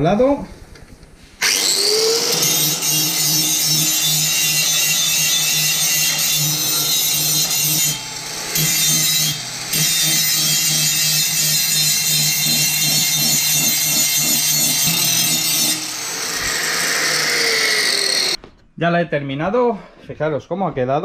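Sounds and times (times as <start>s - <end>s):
angle grinder grinding steel: 1.4s - 18.4s.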